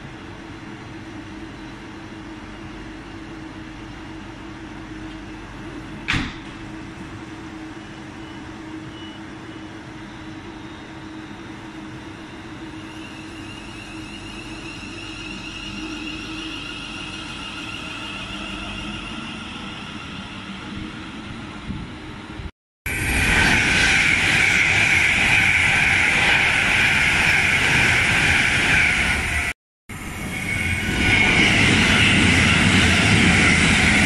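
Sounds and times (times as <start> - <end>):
electric train hum: 0.0 - 34.0.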